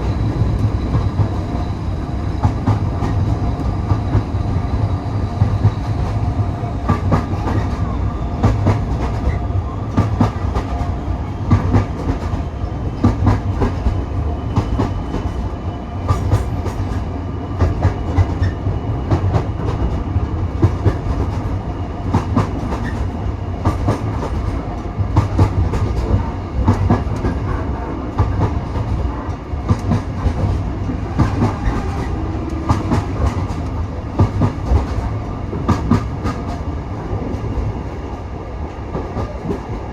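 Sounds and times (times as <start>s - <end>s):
railway carriage rumble: 0.0s - 39.9s.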